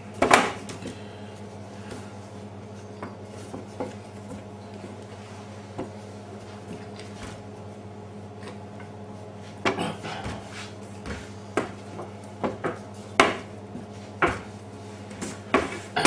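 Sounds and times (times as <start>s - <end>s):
rolling pin working dough: 0.0s - 16.0s.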